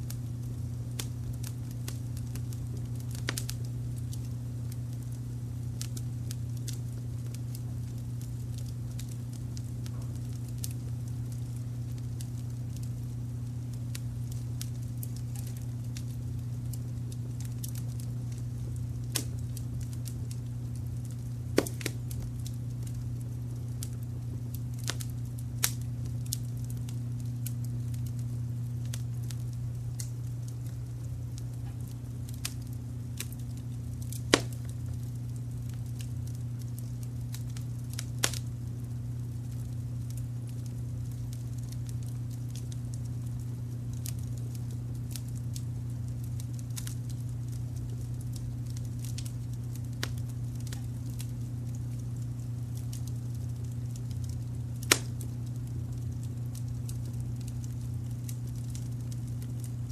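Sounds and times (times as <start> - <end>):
fireplace fire crackling: 0.0 - 59.9
low rumble of brown noise: 0.0 - 59.9
sharp pops of fire: 0.0 - 59.9.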